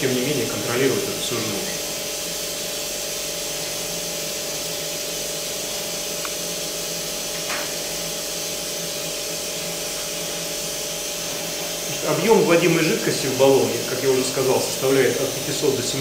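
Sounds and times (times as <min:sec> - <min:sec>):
equipment hiss: 0:00.0 - 0:16.0
mid-pitched hum: 0:00.0 - 0:16.0.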